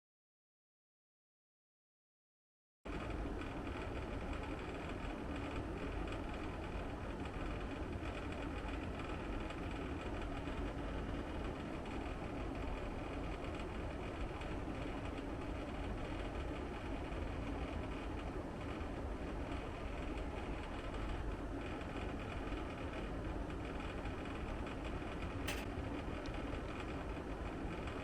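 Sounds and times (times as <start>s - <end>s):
air conditioner buzzing hum: 2.9s - 28.0s.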